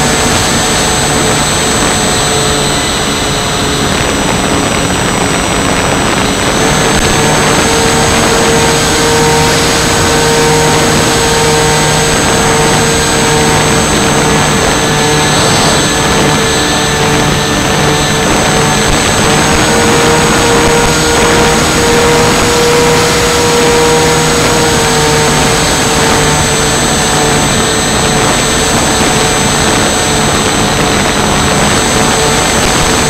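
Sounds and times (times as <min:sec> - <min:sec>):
electric motors whining: 0:00.0 - 0:33.0
wind rush: 0:00.0 - 0:33.0.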